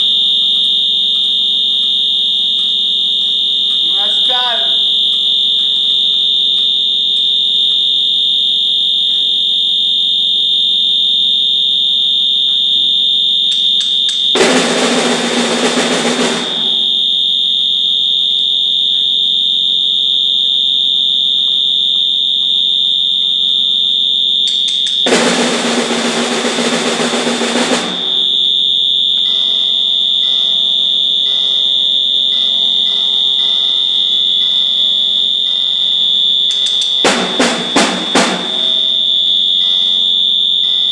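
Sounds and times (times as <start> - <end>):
loud piercing high tone: 0.0 - 40.9.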